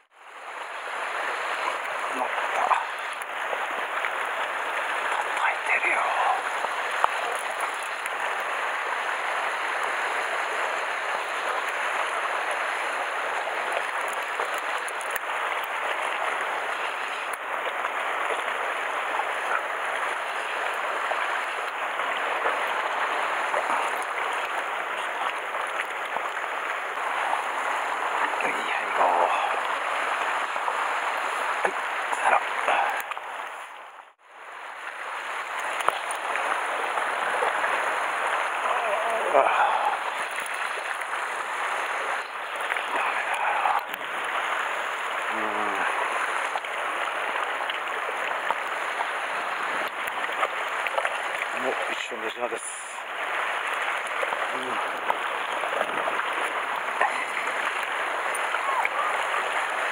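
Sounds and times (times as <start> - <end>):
surf splashing over rocks: 0.0 - 59.9.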